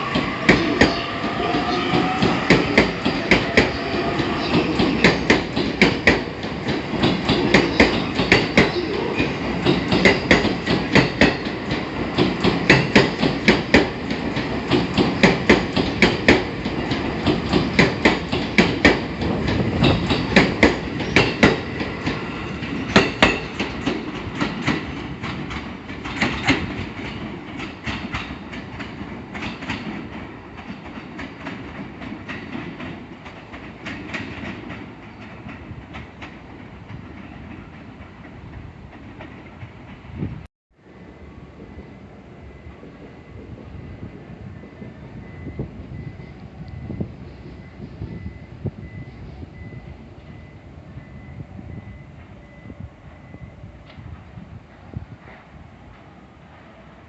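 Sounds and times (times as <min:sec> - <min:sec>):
train wheels clattering on rails: 0:00.0 - 0:40.4, 0:41.8 - 0:56.8
train rumble: 0:00.0 - 0:57.0.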